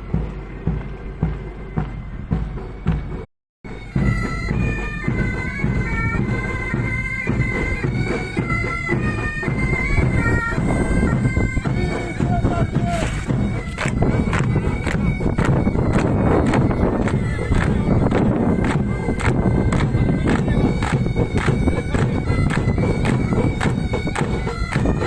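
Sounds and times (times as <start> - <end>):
bagpipes playing a marching tune: 0.0 - 25.0.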